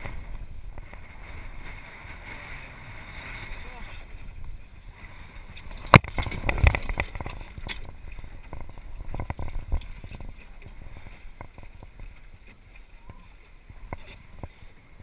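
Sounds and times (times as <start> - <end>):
water washing along hull: 0.0 - 15.0
wind on microphone: 0.0 - 15.0.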